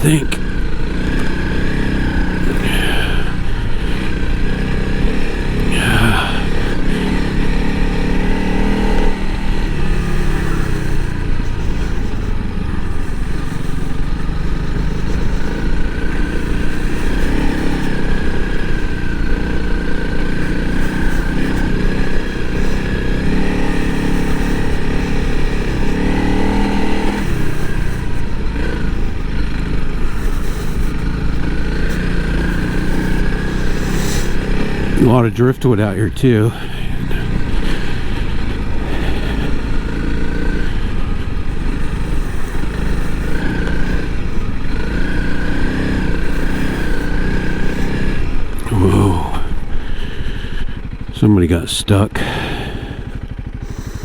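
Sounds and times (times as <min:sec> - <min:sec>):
motorcycle engine under load: 0:00.1 - 0:54.0.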